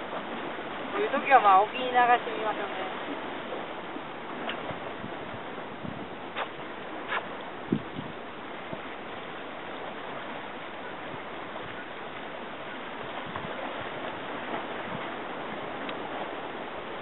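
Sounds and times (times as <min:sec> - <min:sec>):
sea water rushing: 0:00.0 - 0:17.0
wind: 0:00.0 - 0:17.0.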